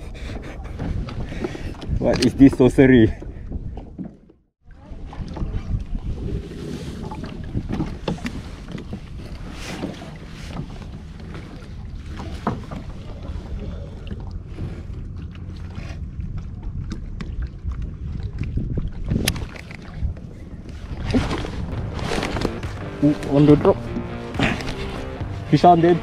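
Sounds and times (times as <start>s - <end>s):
wind rumbling on microphone: 0.0s - 4.1s, 4.8s - 26.0s.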